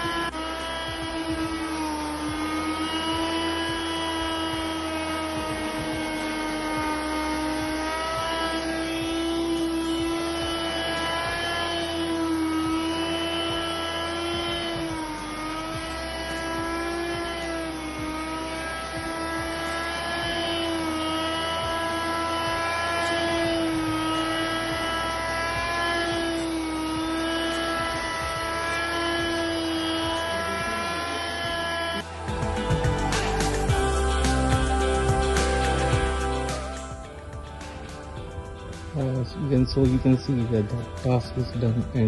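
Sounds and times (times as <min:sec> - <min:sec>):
patio cleaner motor whine: 0:00.0 - 0:42.0.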